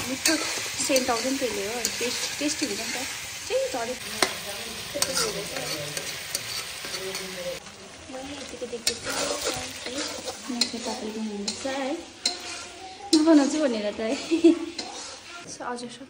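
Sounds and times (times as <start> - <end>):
metal spatula scraping a pan: 0.0 - 7.6, 8.3 - 15.5
chicken and onion sizzling: 0.0 - 16.0.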